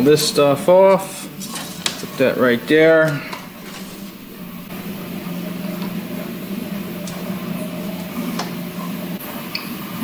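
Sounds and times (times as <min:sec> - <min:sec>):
printers humming: 0:00.0 - 0:10.0.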